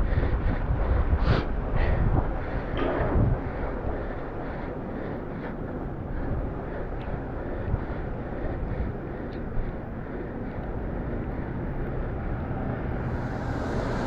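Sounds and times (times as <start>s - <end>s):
road noise: 0.0s - 14.0s
wind on microphone: 0.0s - 14.0s.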